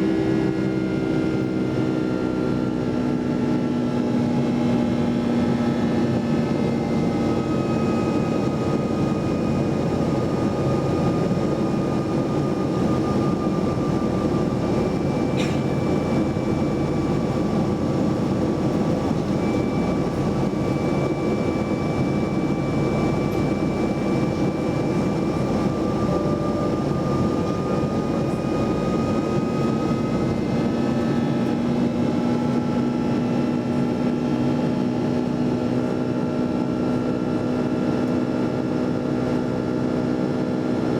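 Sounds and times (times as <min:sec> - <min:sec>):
jet engine cabin noise: 0:00.0 - 0:40.9.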